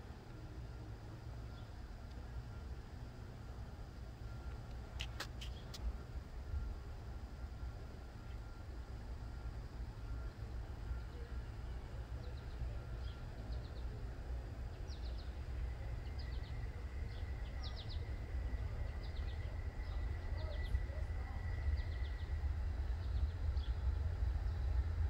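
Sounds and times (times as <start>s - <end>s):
songbirds chirping: 0.2s - 3.0s, 7.4s - 25.0s.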